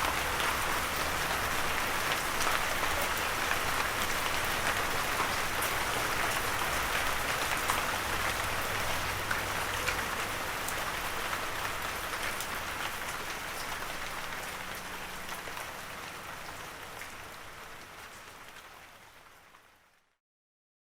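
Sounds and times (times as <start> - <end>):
light rain falling: 0.0 - 20.2.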